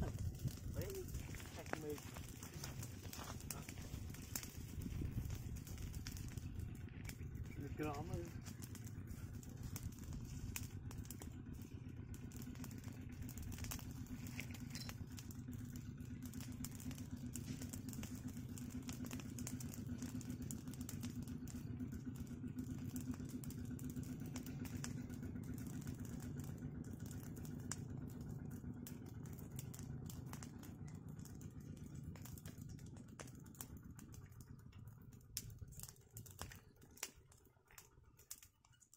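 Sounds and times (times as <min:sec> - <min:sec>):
faint crackles and clicks: 0:00.0 - 0:38.9.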